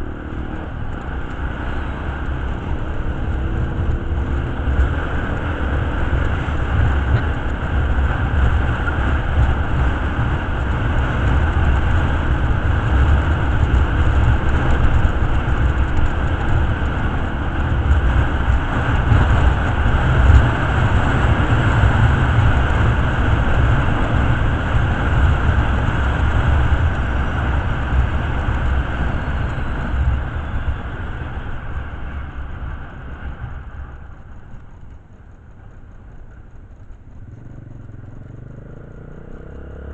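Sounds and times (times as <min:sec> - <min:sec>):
wind buffeting microphone: 0:00.0 - 0:35.3
motorcycle engine and road noise: 0:00.0 - 0:39.9.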